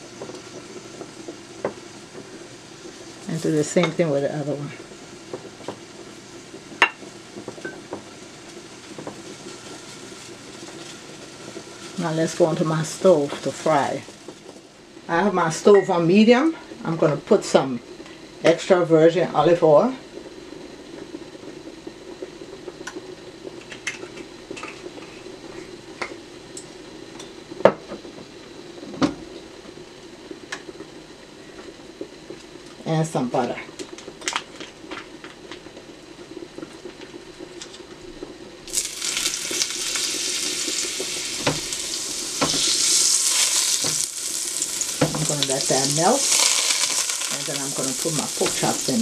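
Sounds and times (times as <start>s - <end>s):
steady hum: 0.0s - 49.0s.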